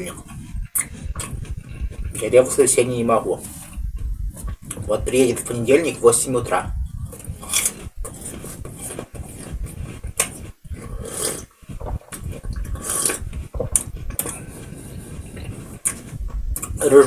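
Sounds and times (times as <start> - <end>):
person chewing apple: 0.0 - 17.0.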